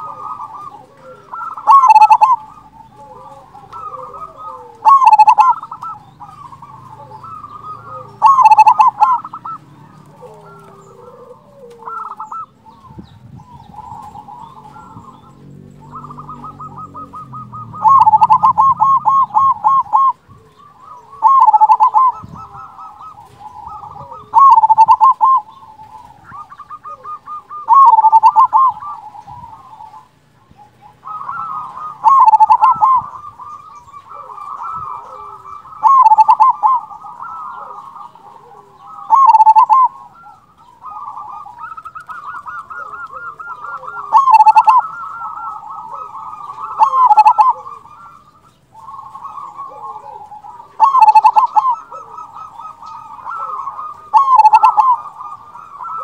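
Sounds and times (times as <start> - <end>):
dove rolling coo: 0.0 - 56.0
quiet continuous cooing: 0.0 - 56.0.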